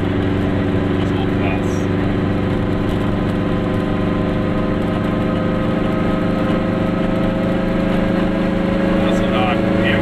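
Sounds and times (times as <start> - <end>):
road noise: 0.0 - 10.0
two-stroke car engine running: 0.0 - 10.0.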